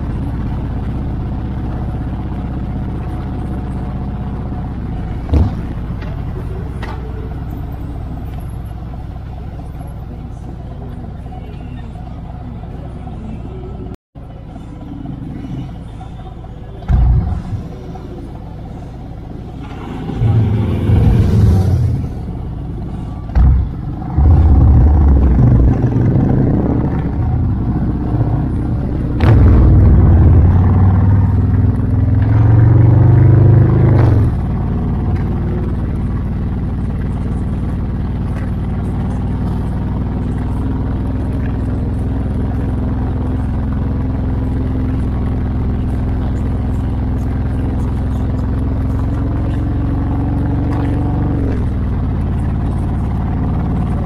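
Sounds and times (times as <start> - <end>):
motorcycle engine accelerating: 0.0 - 9.8, 14.9 - 54.0.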